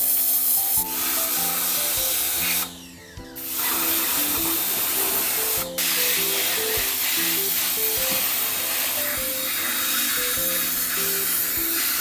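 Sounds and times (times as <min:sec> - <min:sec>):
steam spray gun hissing: 0:00.0 - 0:02.8, 0:03.4 - 0:12.0
background music: 0:00.1 - 0:12.0.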